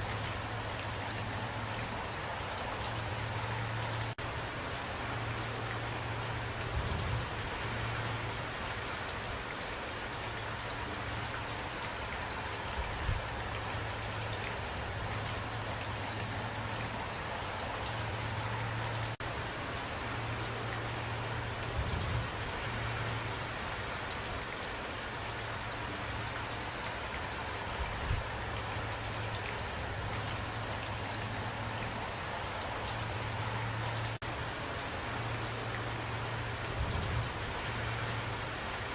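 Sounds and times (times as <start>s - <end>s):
raindrops hitting a surface: 0.0s - 38.9s
steady rain falling: 0.0s - 38.9s.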